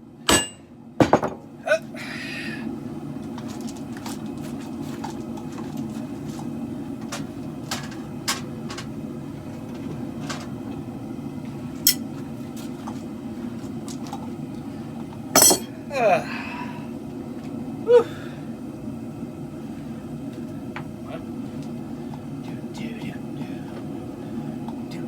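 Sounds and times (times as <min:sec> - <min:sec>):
gas forge rushing: 0:02.0 - 0:25.0.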